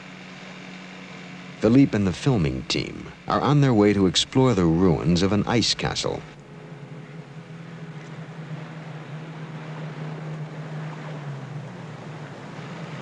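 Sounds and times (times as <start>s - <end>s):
boat motor humming: 0.0s - 13.0s
water rushing: 0.0s - 13.0s
wind: 0.0s - 13.0s.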